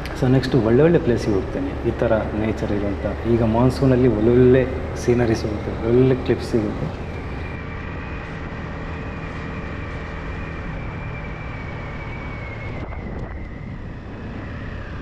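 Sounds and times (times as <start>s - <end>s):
thin high whine: 0.0s - 15.0s
wind noise on microphone: 0.0s - 15.0s.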